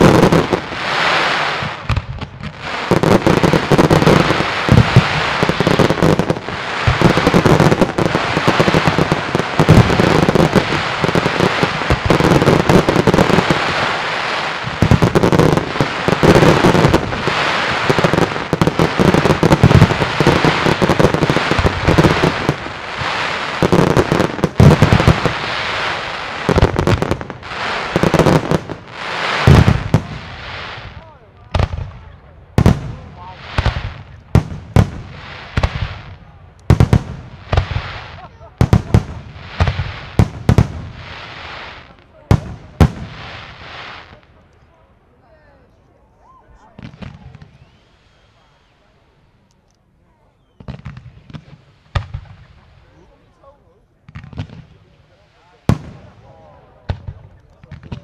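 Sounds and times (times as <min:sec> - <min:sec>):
fireworks bursting: 0:00.0 - 0:44.4, 0:46.8 - 0:49.1, 0:50.5 - 0:53.4, 0:54.0 - 0:58.0.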